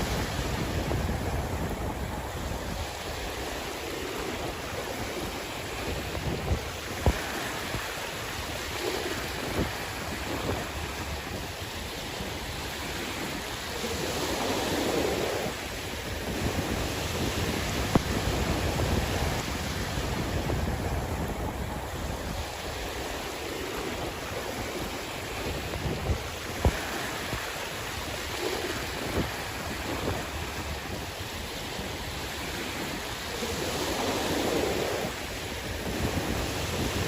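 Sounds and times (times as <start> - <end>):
sea waves on shore: 0.0 - 37.0.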